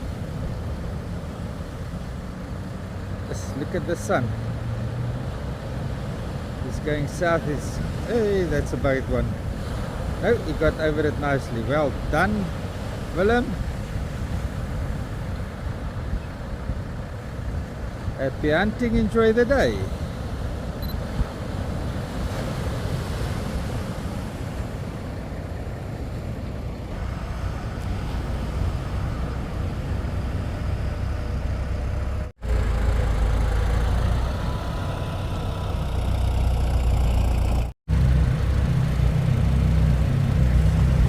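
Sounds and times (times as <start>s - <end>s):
vehicle engine rumble: 0.0s - 41.0s.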